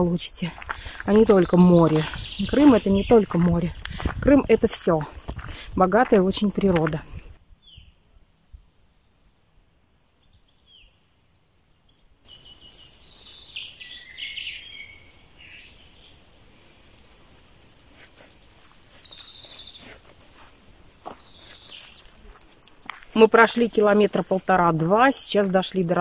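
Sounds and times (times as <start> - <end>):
songbirds singing: 0.0 - 9.4, 10.2 - 11.2, 11.9 - 26.0.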